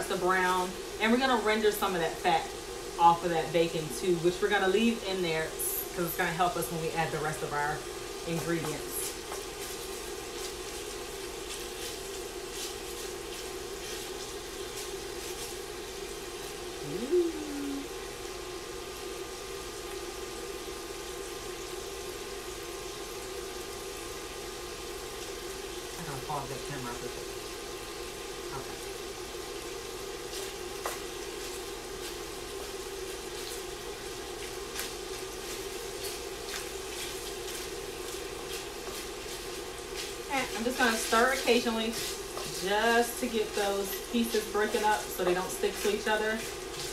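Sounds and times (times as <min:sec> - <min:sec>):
bacon sizzling: 0:00.0 - 0:46.9
steady hum: 0:00.0 - 0:46.9.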